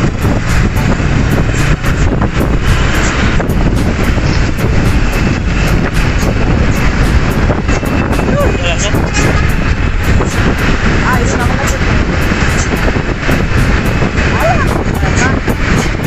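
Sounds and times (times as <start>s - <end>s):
truck engine rumbling: 0.0s - 16.0s
wind buffeting microphone: 0.0s - 16.0s.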